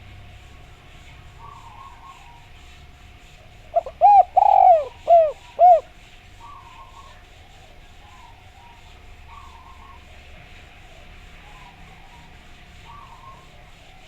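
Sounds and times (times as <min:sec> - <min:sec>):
dove cooing: 0:01.3 - 0:02.6, 0:03.2 - 0:14.0.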